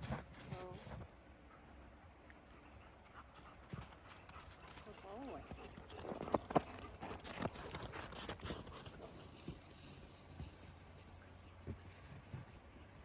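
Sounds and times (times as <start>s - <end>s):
horse hooves stepping on ground: 0.0s - 13.0s.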